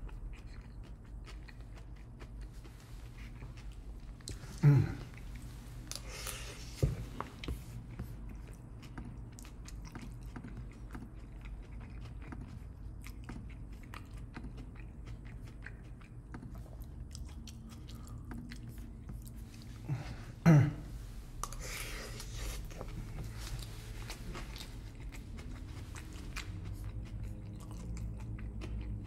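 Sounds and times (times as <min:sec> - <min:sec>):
chewing and biting food: 0:00.0 - 0:20.0, 0:21.3 - 0:29.0.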